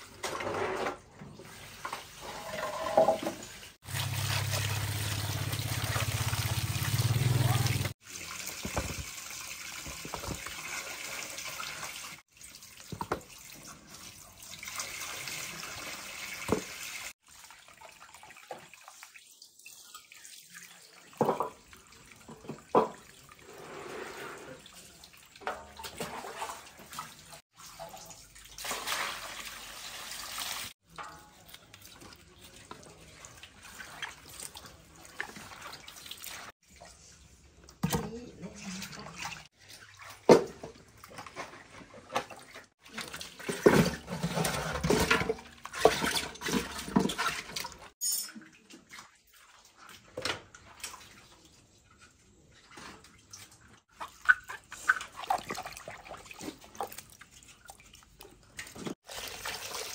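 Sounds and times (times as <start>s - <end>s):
water splashing and trickling: 1.2s - 59.9s.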